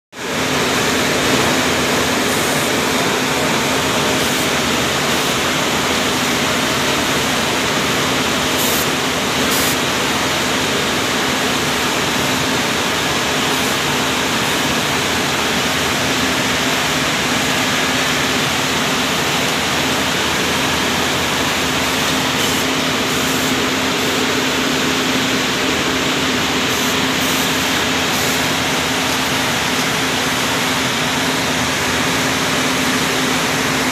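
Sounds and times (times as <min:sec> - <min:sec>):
machines rushing noise: 0:01.1 - 0:31.7.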